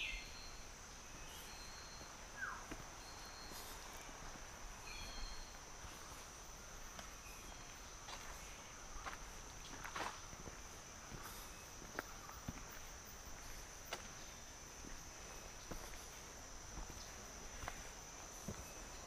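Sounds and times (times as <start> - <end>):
high-pitched insect drone: 0.0 - 19.0
footsteps on dirt trail: 1.1 - 19.0.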